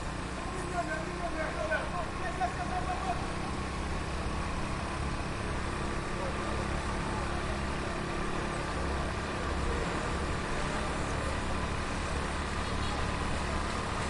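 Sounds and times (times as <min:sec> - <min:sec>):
heavy street traffic: 0:00.0 - 0:14.0.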